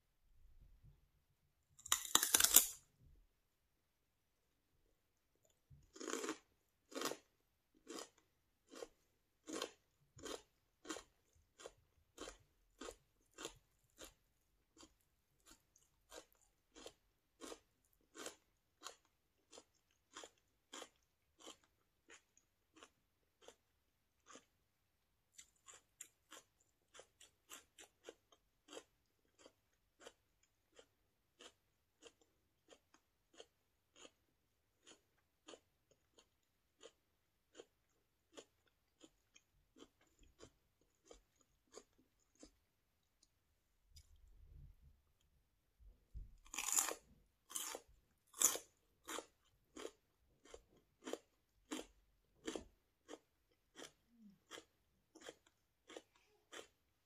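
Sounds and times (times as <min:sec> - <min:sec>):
chewing crunchy celery: 0:01.8 - 0:02.8, 0:05.4 - 0:45.3, 0:46.1 - 0:57.0.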